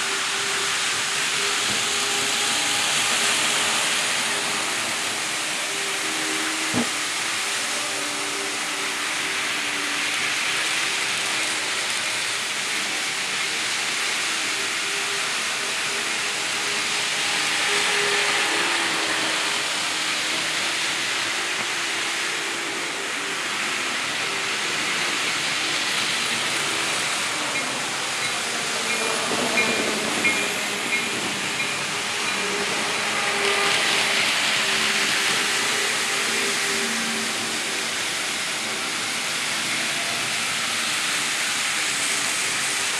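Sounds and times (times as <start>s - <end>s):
model train wheels hissing on rails: 0.0s - 42.9s.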